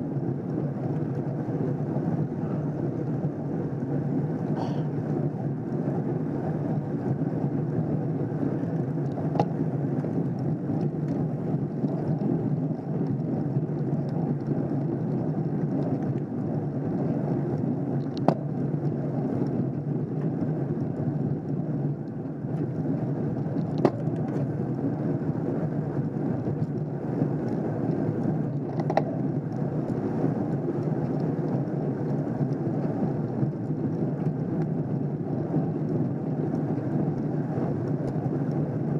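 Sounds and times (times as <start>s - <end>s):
bike tyres on asphalt: 0.0s - 38.9s.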